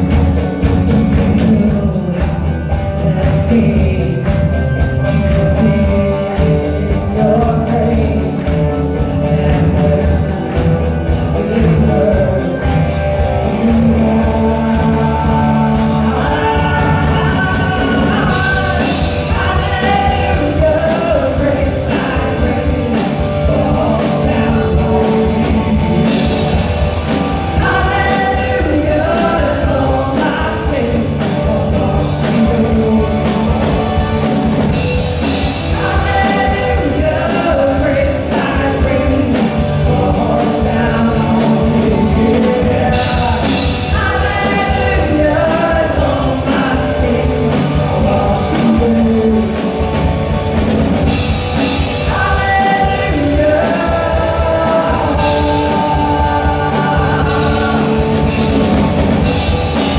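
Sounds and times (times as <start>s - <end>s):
bass: 0.0s - 59.9s
drum kit: 0.0s - 59.9s
electric and acoustic guitars: 0.0s - 59.9s
keyboard: 0.0s - 59.9s
lead vocals: 0.0s - 59.9s.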